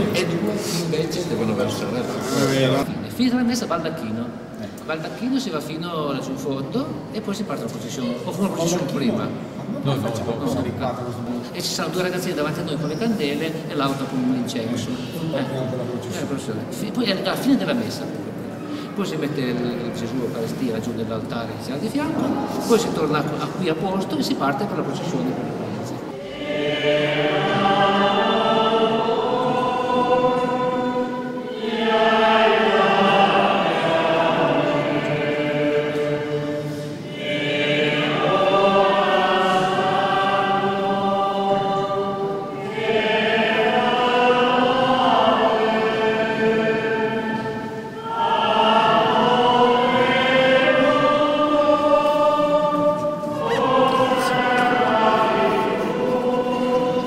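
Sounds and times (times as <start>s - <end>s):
group singing a religious chant: 0.0s - 2.9s, 7.7s - 57.0s.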